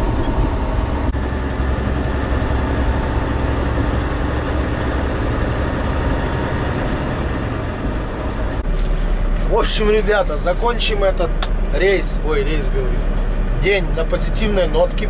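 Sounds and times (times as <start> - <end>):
diesel engine running: 0.0 - 15.0
road noise: 0.0 - 15.0.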